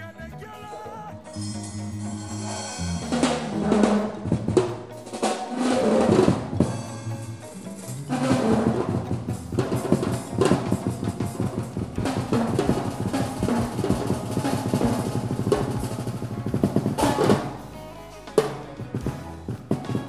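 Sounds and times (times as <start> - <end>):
drum kit playing: 0.0 - 20.0.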